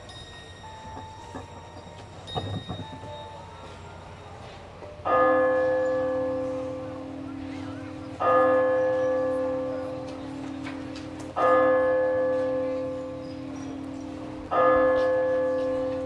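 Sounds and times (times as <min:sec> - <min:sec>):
bell tolling: 0:00.0 - 0:16.0.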